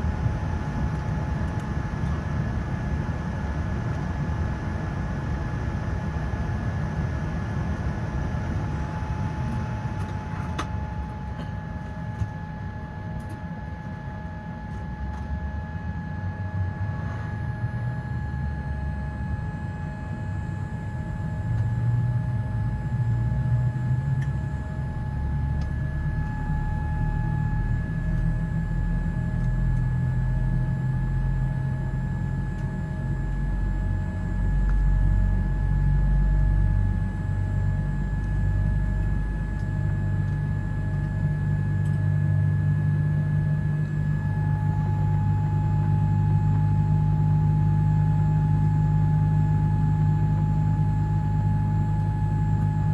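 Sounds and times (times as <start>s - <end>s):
aircraft systems high whine: 0.0s - 52.9s.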